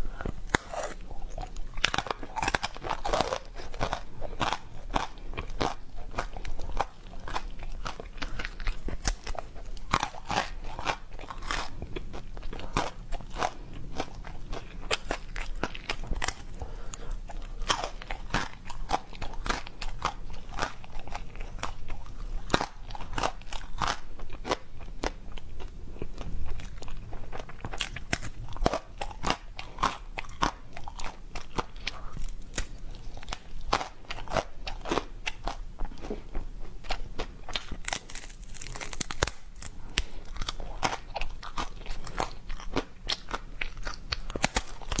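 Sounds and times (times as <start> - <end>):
biting and chewing candy: 0.0 - 45.0.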